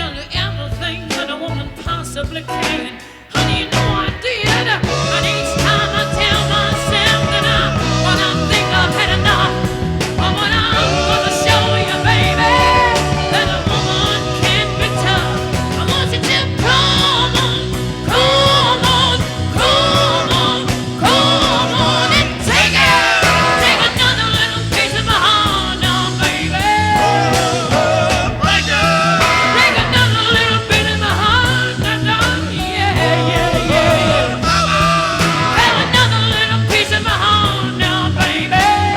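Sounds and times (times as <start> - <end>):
rock and roll song with singing: 0.0 - 38.9.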